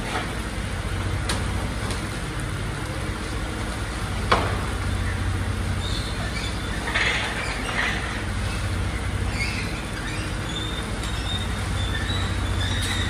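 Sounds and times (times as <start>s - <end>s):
rain patter: 0.0s - 13.0s.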